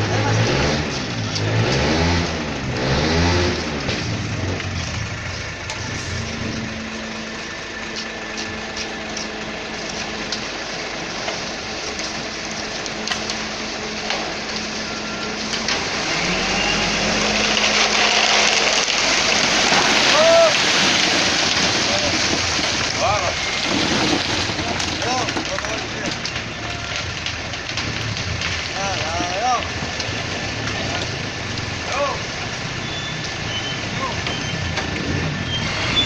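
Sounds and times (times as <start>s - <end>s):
diesel truck engine revving: 0.0s - 36.0s.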